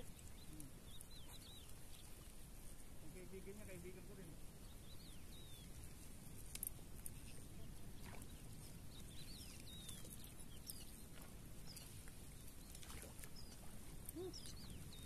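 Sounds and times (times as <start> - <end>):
small birds chirping: 0.0 - 15.0
wind rumble on microphone: 0.0 - 15.0.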